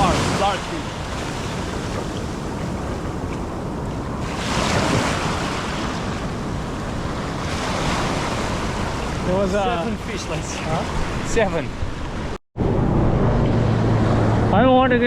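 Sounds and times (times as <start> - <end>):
surf breaking on beach: 0.0 - 12.4
wind buffeting microphone: 0.0 - 15.0.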